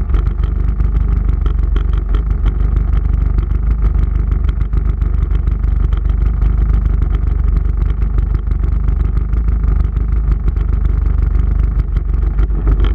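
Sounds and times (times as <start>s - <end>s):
jet ski engine idling: 0.0s - 12.9s.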